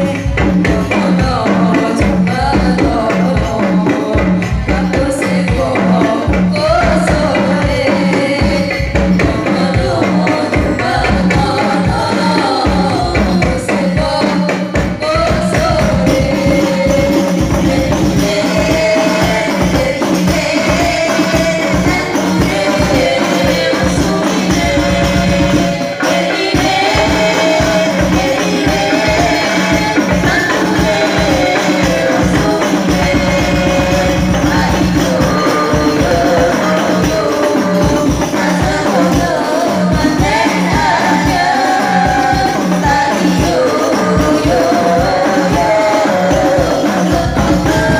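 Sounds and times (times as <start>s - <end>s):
frame drums beating: 0.0s - 47.9s
women singing through microphones: 0.0s - 47.9s.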